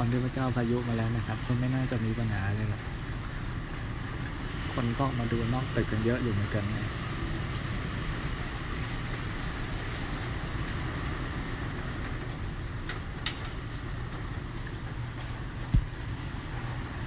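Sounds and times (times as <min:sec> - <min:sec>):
wind rushing around a building: 0:00.0 - 0:17.0.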